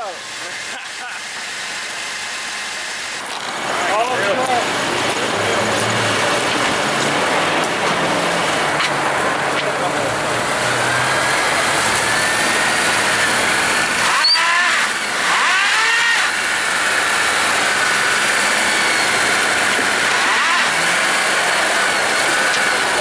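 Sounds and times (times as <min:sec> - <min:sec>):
steady whine: 0:00.0 - 0:23.0
car engine revving hard: 0:03.1 - 0:23.0.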